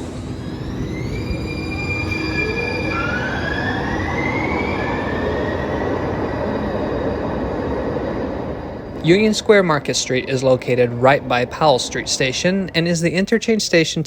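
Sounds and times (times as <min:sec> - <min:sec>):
rising electric whine: 0:00.0 - 0:13.3
train wheels rumbling on rail: 0:00.0 - 0:13.5.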